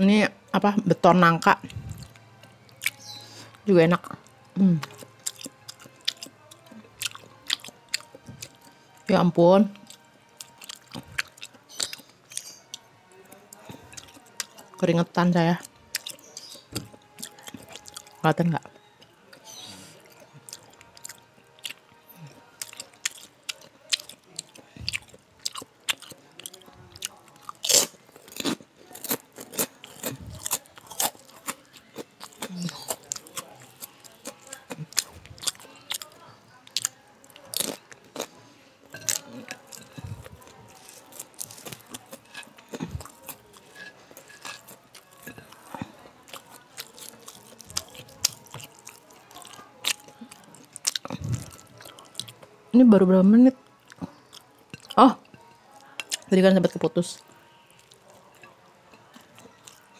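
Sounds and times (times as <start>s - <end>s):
chewing and crunching food: 1.0s - 52.7s, 53.6s - 59.9s.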